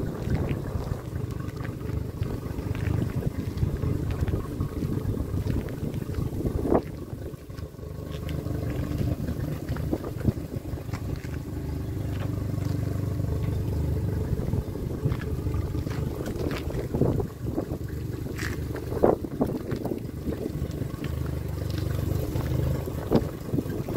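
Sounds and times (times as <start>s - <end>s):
wind rumble on microphone: 0.0s - 23.9s.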